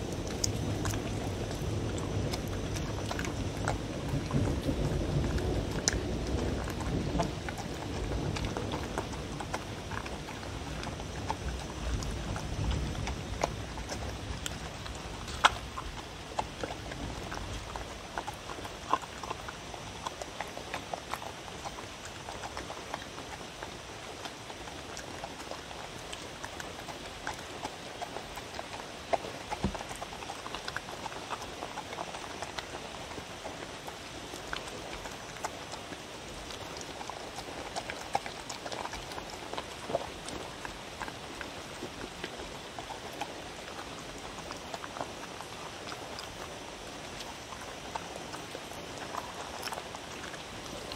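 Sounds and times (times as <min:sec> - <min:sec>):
dog chewing and smacking: 0:00.0 - 0:50.9.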